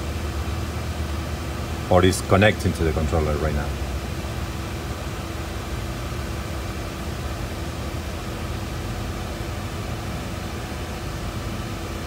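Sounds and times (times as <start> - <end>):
ventilation fans humming: 0.0 - 12.0.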